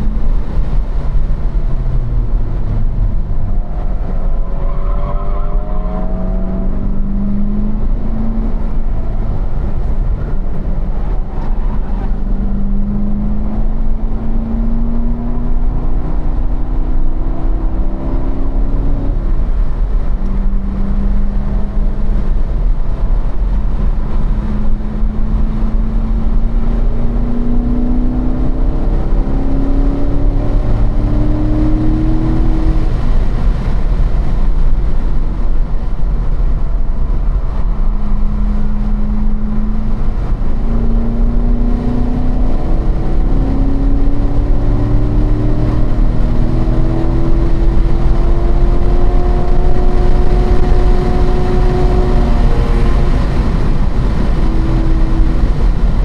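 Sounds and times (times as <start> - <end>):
car engine accelerating: 0.0 - 56.0
low road and wind rumble: 0.0 - 56.0.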